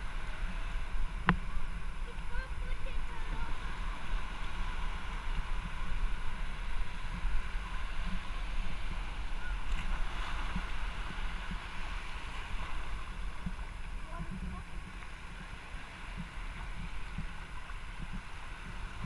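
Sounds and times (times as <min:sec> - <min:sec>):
small waves washing on sand: 0:00.0 - 0:19.0
wind buffeting microphone: 0:00.0 - 0:19.0.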